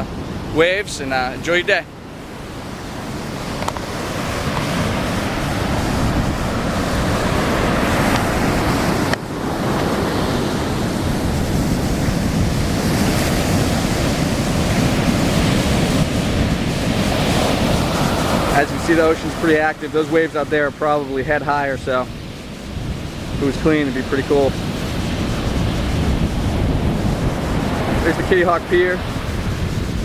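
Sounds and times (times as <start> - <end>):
surf breaking on beach: 0.0 - 30.0
wind on microphone: 0.0 - 30.0.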